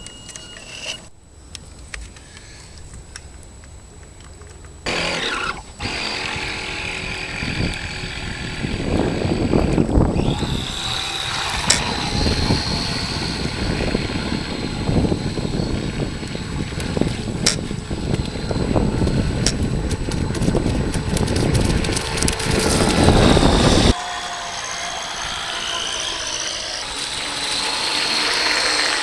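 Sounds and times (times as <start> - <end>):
electric boat motor whining: 4.8 - 29.0.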